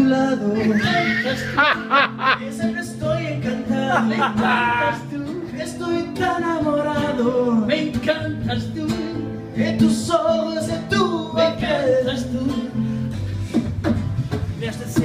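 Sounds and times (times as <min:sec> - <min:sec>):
man singing into a microphone: 0:00.0 - 0:13.1
classical guitar strummed: 0:00.0 - 0:15.0.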